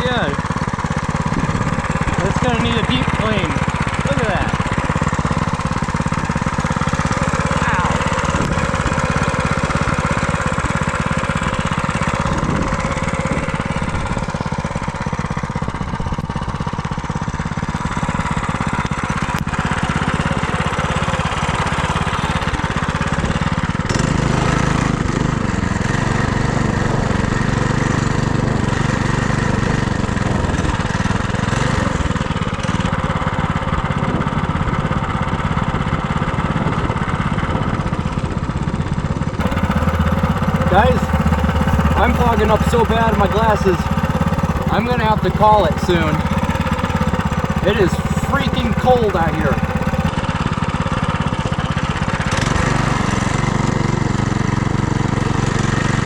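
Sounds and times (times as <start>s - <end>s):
minibike engine running: 0.0s - 33.7s, 39.4s - 56.0s.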